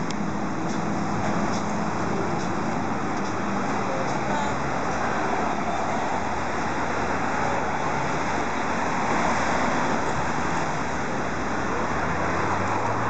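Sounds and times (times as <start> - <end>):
cars driving past: 0.2 - 13.0.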